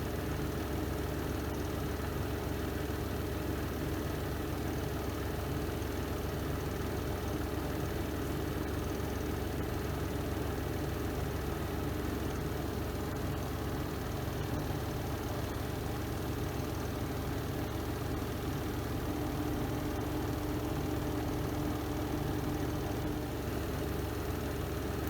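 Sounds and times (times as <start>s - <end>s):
washing machine spin hum: 0.0s - 25.0s.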